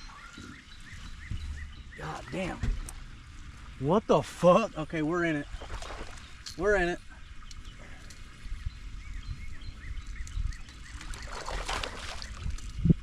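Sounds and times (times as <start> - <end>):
steady low rumble: 0.0 - 11.0
bird chirping: 0.0 - 11.7.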